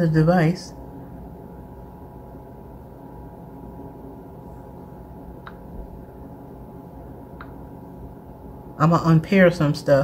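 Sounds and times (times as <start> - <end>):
low hum with faint tones: 0.0 - 10.0.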